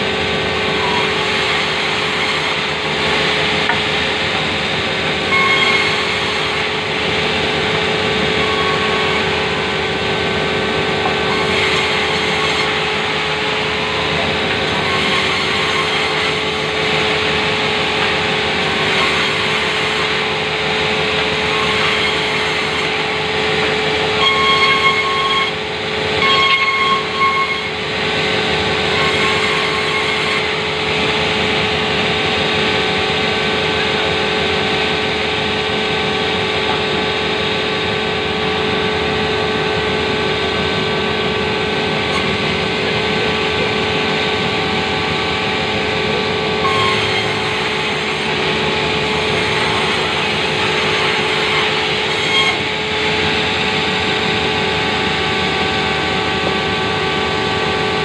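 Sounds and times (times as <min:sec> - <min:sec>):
band saw running: 0:00.0 - 0:58.0
blade whining through wood: 0:00.0 - 0:58.0.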